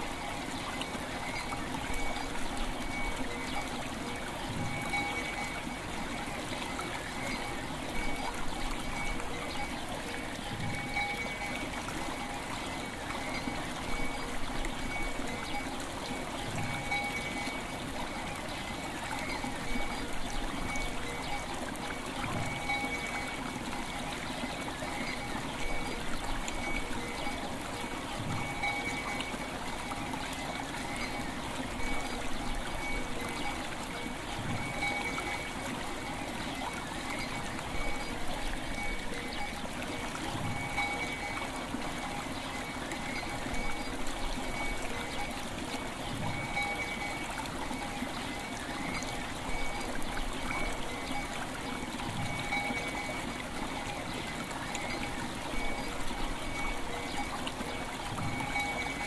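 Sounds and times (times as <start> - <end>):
faint bell tones: 0.0 - 59.0
river water flowing: 0.0 - 59.0.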